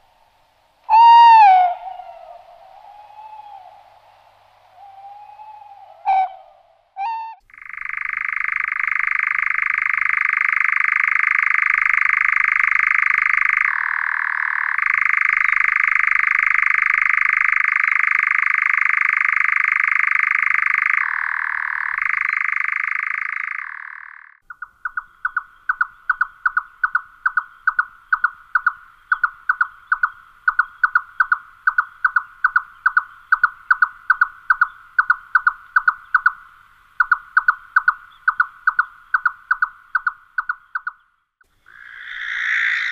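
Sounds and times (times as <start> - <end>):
nightjar churring trill: 7.5 - 42.9.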